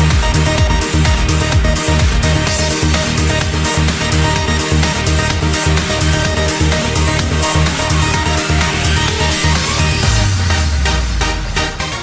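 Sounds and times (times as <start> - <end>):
electronic music with bass beat: 0.0 - 12.0.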